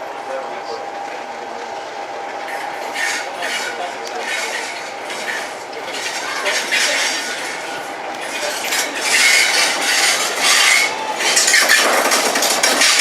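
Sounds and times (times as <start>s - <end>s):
train wheels squealing and clanking: 2.4s - 13.0s.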